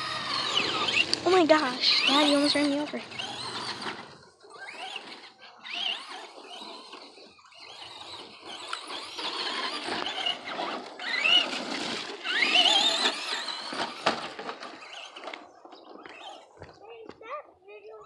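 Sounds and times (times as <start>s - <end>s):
rc truck motor whining: 0.0s - 16.7s.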